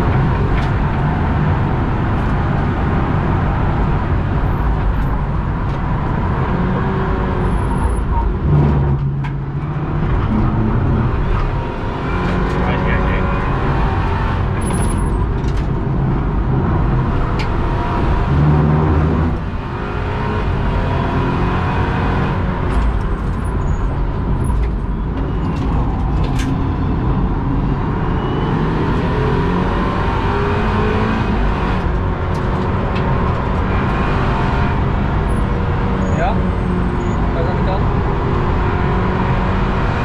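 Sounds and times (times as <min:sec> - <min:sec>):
car engine running hard: 0:00.0 - 0:40.0
road and tyre noise: 0:00.0 - 0:40.0.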